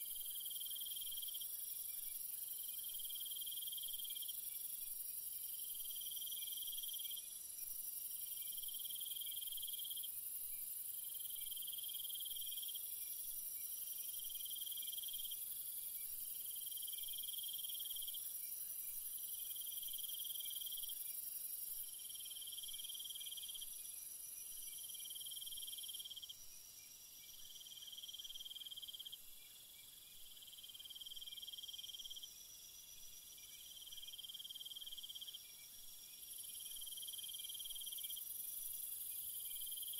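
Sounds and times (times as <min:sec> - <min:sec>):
louder insect chirping call: 0:00.0 - 0:39.9.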